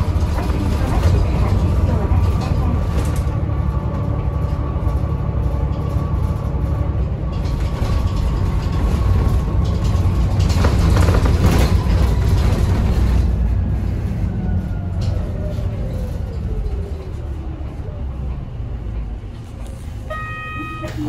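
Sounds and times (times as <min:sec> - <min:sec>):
bus engine drone: 0:00.0 - 0:21.0.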